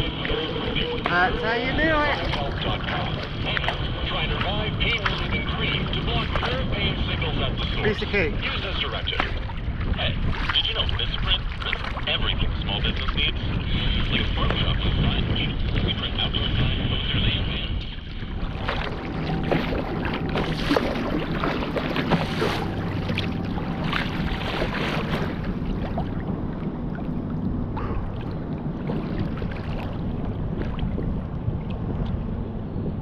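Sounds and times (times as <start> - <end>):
waves splashing against hull: 0.0 - 33.0
wind buffeting microphone: 0.0 - 33.0.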